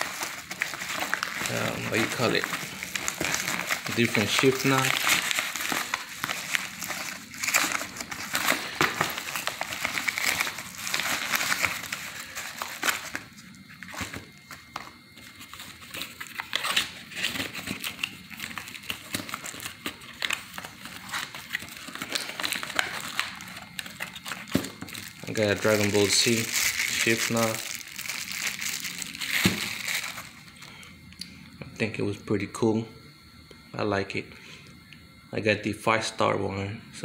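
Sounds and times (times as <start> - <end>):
packaging crinkling: 0.0 - 30.7.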